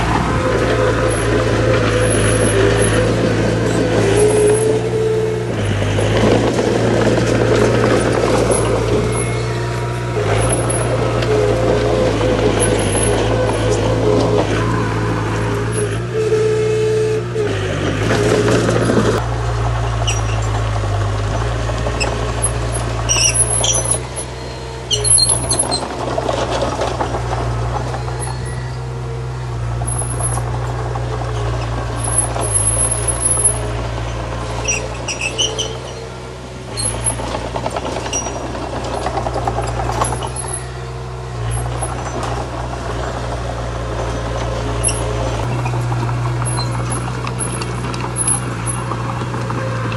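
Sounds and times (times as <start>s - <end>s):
short high squeaks: 0.0s - 19.2s, 20.0s - 20.7s, 21.4s - 49.9s
bulldozer diesel engine running: 0.0s - 49.9s.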